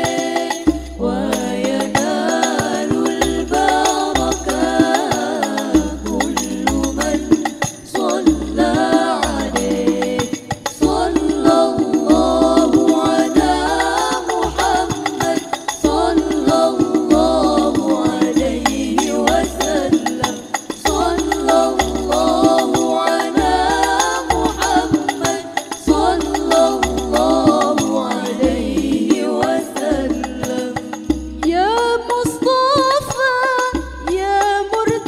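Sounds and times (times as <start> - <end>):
frame drums beating: 0.0 - 32.9
voices singing together: 0.0 - 35.0.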